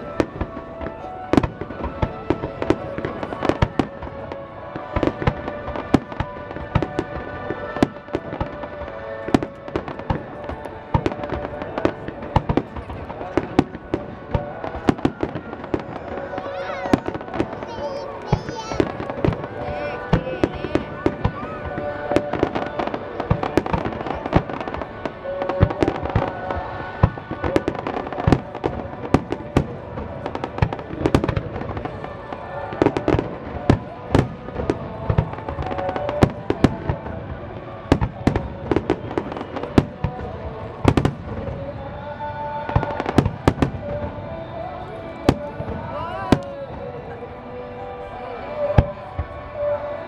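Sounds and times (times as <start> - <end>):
fireworks bangs and crackles: 0.0 - 50.0
music playing: 0.0 - 50.0.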